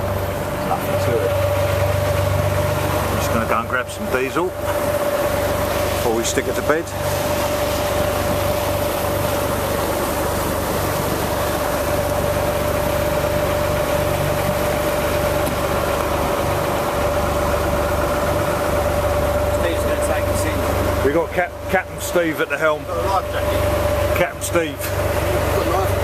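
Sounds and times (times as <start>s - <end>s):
boat diesel engine running: 0.0s - 26.0s
steady whining tone: 0.0s - 26.0s.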